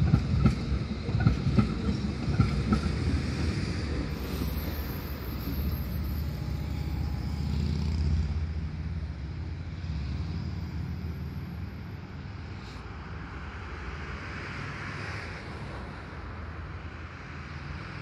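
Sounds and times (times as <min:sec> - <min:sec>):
light-rail train rumbling on tracks: 0:00.0 - 0:18.0.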